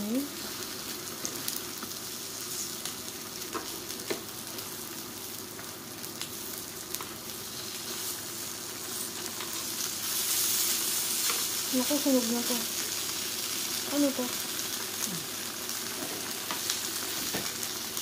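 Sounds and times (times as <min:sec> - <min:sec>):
food sizzling on a grill: 0:00.0 - 0:18.0.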